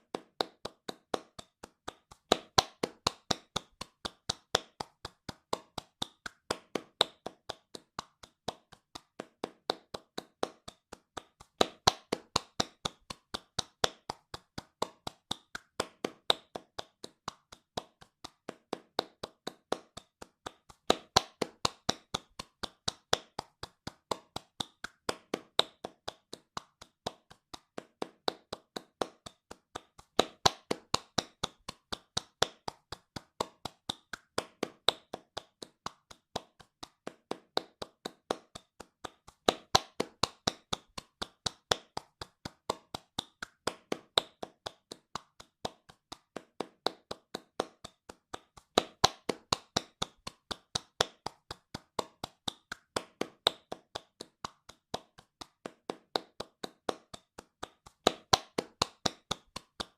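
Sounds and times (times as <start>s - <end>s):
hands clapping fast: 0.0s - 59.9s.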